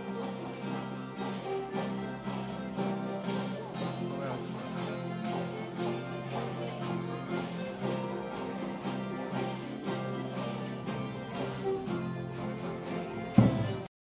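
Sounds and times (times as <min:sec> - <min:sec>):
acoustic guitars strummed: 0:00.0 - 0:13.9.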